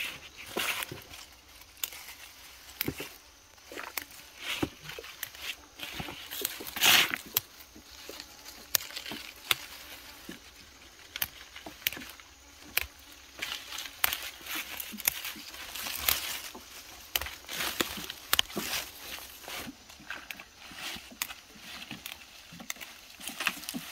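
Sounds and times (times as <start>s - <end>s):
undergrowth rustling and swishing: 0.0s - 23.9s
stems snapping: 0.4s - 23.9s.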